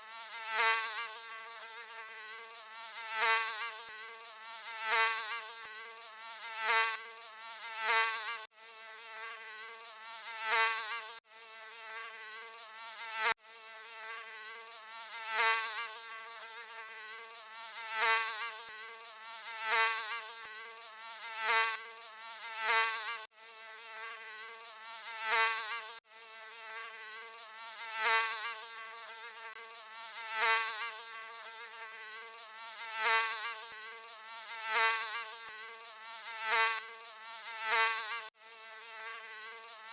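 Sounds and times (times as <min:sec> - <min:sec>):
mosquito buzzing: 0:00.0 - 0:39.9.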